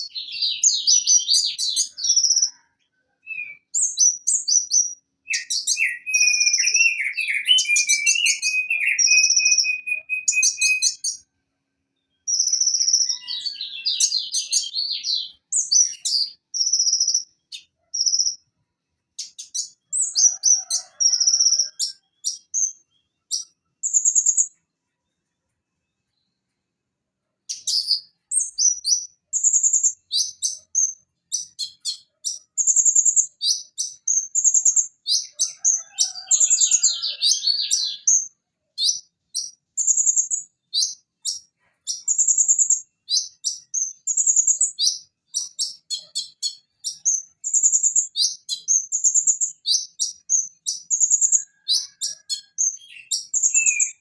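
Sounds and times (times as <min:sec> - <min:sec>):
bird chirping and trilling: 0:00.0 - 0:11.3, 0:12.0 - 0:18.5, 0:19.2 - 0:24.6, 0:27.5 - 0:54.0.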